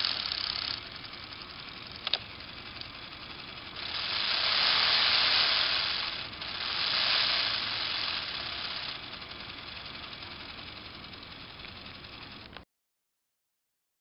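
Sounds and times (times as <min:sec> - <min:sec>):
toy motor whirring and rattling: 0:00.0 - 0:12.6.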